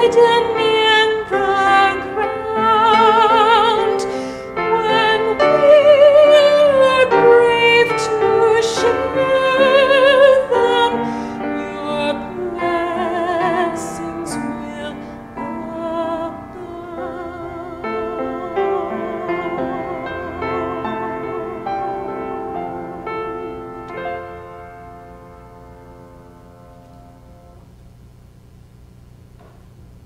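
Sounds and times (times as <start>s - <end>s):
woman singing a hymn: 0.0s - 24.5s
piano accompaniment: 0.0s - 27.6s.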